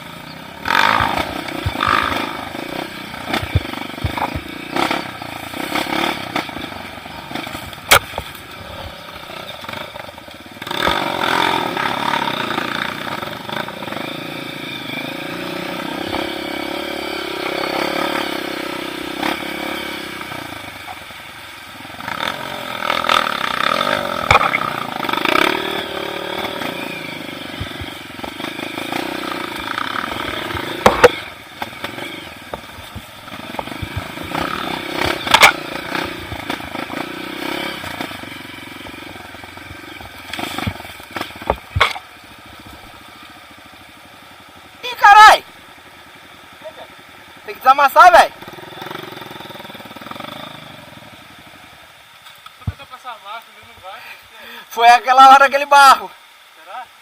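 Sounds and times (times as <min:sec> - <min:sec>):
motorcycle engine revving: 0:00.0 - 0:52.8.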